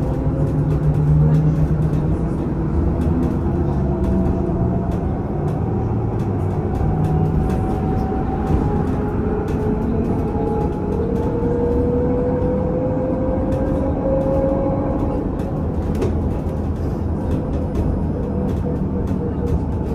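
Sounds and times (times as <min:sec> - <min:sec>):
road rumble: 0:00.0 - 0:19.9.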